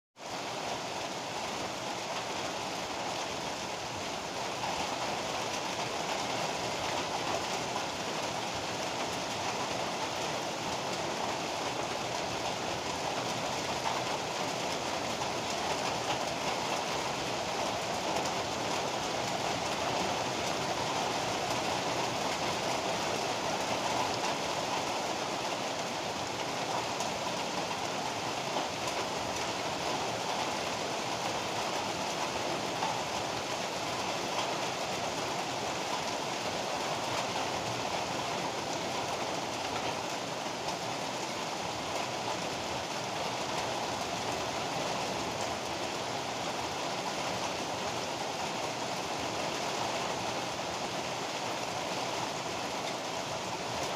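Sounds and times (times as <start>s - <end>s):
heavy rain falling: 0.2s - 53.9s.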